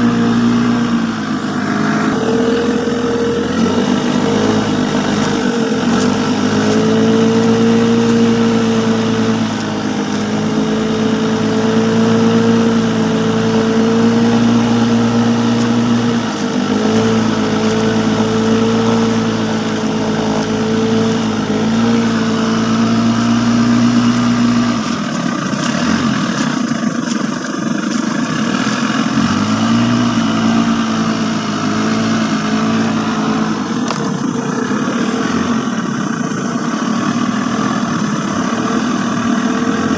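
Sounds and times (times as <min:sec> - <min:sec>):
motor engine running: 0:00.0 - 0:39.9.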